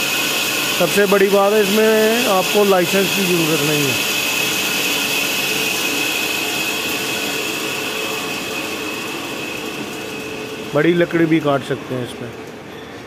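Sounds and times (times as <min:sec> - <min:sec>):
band saw running: 0:00.0 - 0:12.3.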